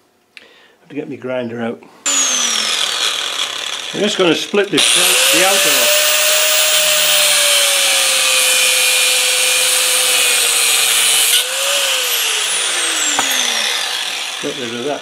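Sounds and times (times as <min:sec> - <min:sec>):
angle grinder cutting steel: 0:02.1 - 0:15.0.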